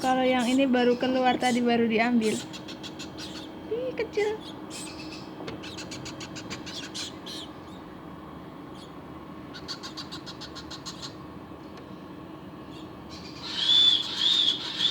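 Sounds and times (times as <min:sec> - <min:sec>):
parrot chicks begging calls: 0:00.0 - 0:08.0, 0:08.6 - 0:11.3, 0:12.6 - 0:14.9
steady low hum: 0:00.0 - 0:14.9.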